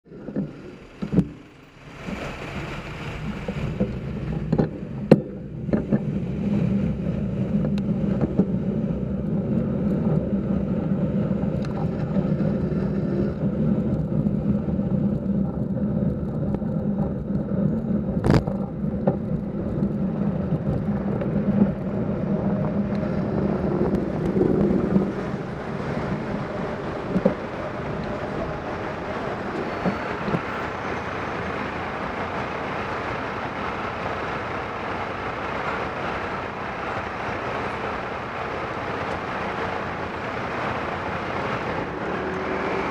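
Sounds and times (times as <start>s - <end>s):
bus engine rumbling: 0.0s - 42.9s
road and wind noise: 0.0s - 42.9s.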